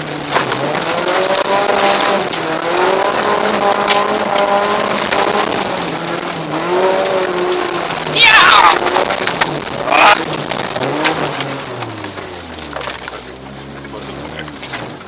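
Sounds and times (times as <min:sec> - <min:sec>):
car engine revving while driving: 0:00.0 - 0:15.0
road noise: 0:00.0 - 0:15.0.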